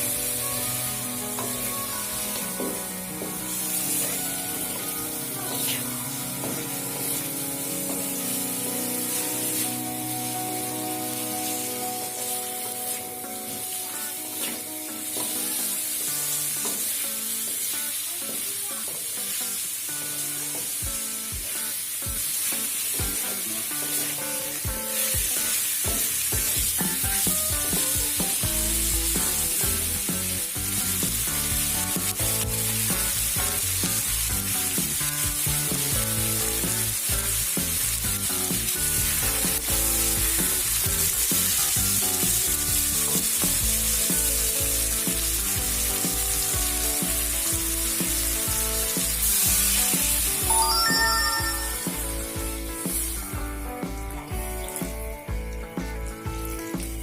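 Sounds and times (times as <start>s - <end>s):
background music with beat: 0.0s - 16.8s, 20.6s - 23.3s, 24.2s - 57.0s
food sizzling in a pan: 0.0s - 57.0s.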